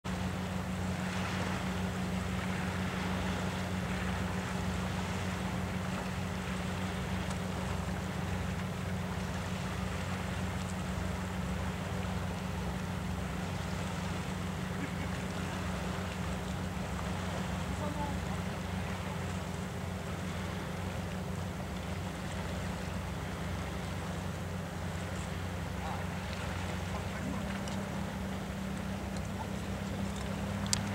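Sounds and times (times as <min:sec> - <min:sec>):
low machine drone: 0:00.1 - 0:30.9
wind and sea hiss: 0:00.1 - 0:30.9.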